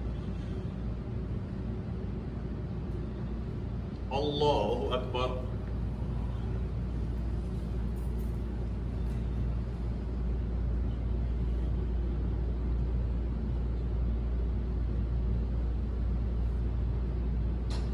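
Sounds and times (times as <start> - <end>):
low rumble with faint hiss: 0.0 - 17.9.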